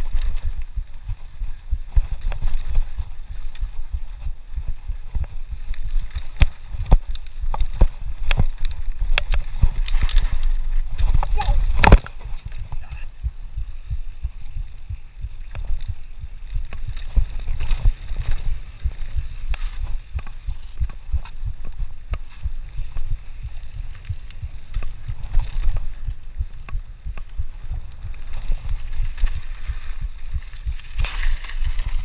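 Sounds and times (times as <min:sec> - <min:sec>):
bike rattling on dirt trail: 0:00.0 - 0:32.0
wind buffeting microphone: 0:00.0 - 0:32.0.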